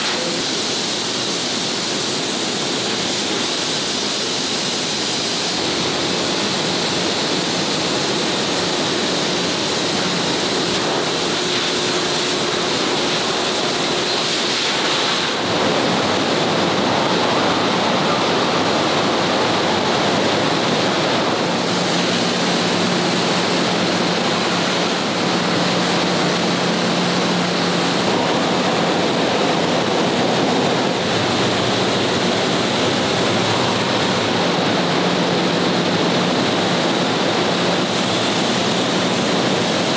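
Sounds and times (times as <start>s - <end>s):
factory ventilation rushing: 0.0s - 39.9s.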